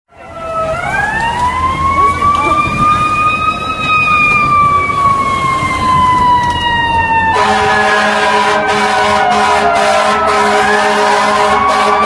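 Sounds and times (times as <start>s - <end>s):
fire truck siren wailing: 0.1s - 12.0s.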